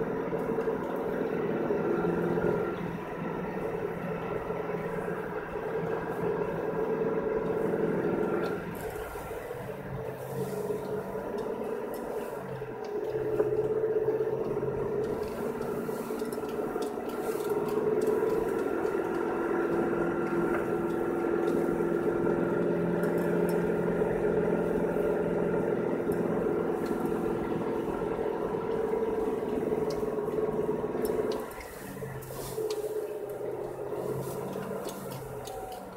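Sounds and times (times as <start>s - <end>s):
car engine humming: 0.0s - 35.9s.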